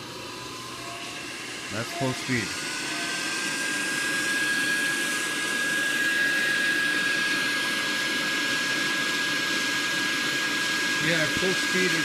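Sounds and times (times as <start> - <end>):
blower rushing air with high whine: 0.0 - 12.0.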